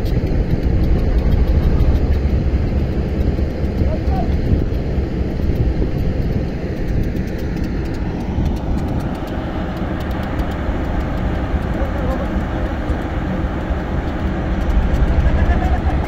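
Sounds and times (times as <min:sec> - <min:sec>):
diesel crane engine rumble: 0:00.0 - 0:16.0
rapid light ticking: 0:00.0 - 0:16.0.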